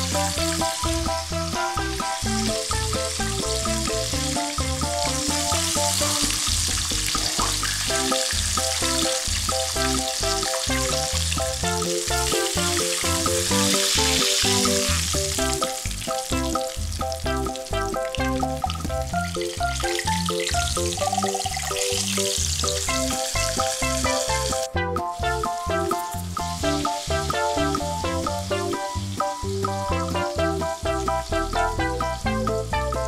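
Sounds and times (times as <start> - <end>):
background music with rhythmic bass: 0.0 - 33.0
food deep-frying in hot oil: 0.0 - 33.0.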